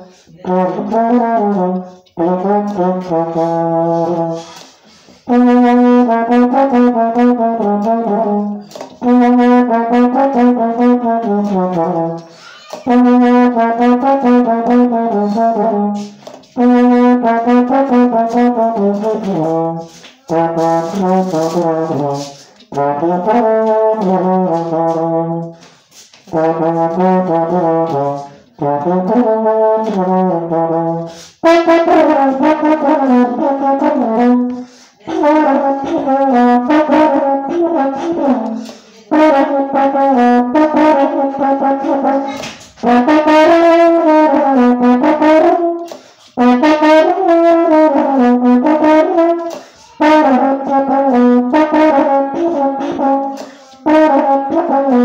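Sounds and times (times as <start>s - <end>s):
baritone horn melody: 0.0s - 55.0s.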